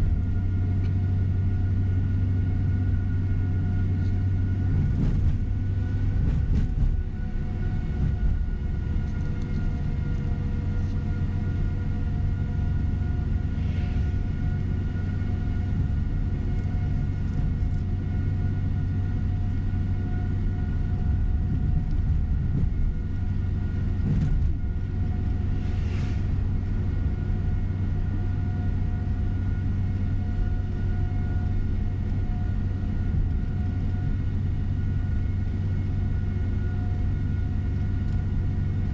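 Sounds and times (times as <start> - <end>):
bus engine and road rumble: 0.0 - 38.9
faint constant whine: 0.0 - 38.9.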